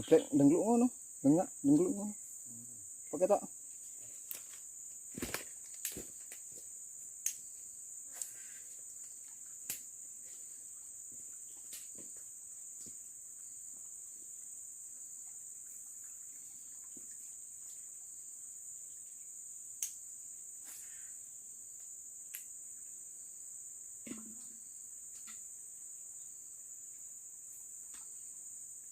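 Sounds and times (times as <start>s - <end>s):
insects droning: 0.0s - 28.9s.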